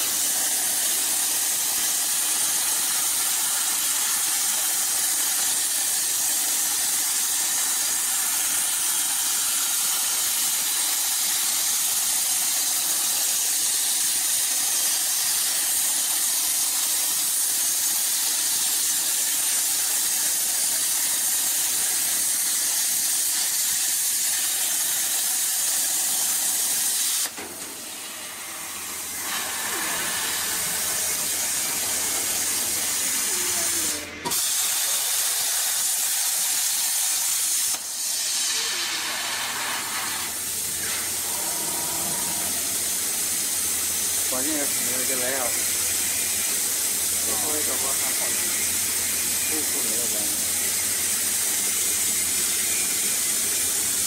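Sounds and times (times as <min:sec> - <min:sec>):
machine hum and air noise: 0:00.0 - 0:54.0
plasma cutter arc hissing: 0:00.0 - 0:54.0.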